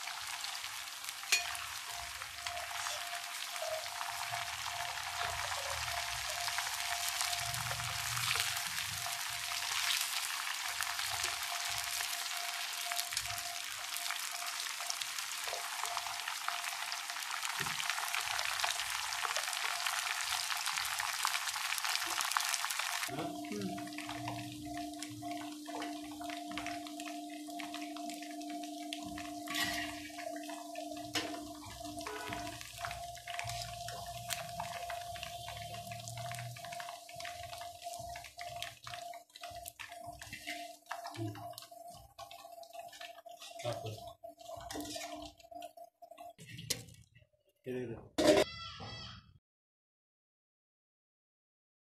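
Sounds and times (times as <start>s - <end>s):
chicken deep-frying in oil: 0.0s - 49.1s.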